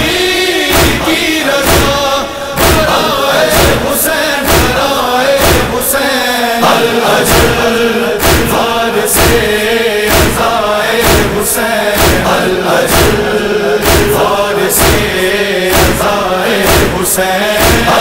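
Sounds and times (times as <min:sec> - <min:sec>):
male chorus chanting: 0:00.0 - 0:18.0
heavy chest-beating thumps: 0:00.7 - 0:05.9, 0:07.2 - 0:18.0.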